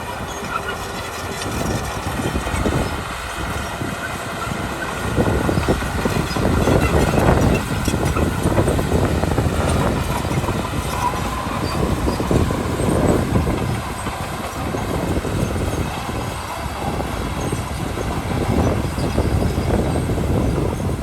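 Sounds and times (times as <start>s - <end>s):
bulldozer diesel engine under load: 0.0s - 21.0s
steel tracks clanking: 0.0s - 21.0s.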